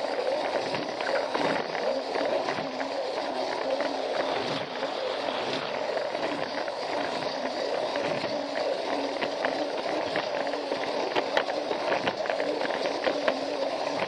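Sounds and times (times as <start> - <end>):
toy train motor whirring: 0.0 - 14.0.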